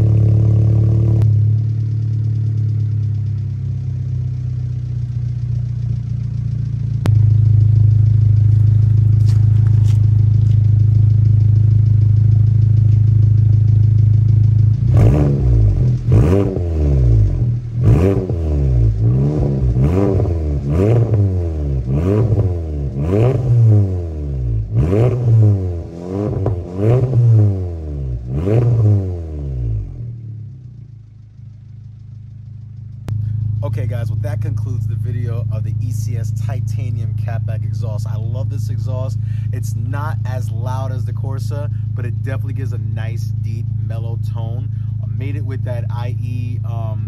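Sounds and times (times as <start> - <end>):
car engine idling: 0.0 - 47.0
engine revving with deep exhaust: 0.0 - 47.0.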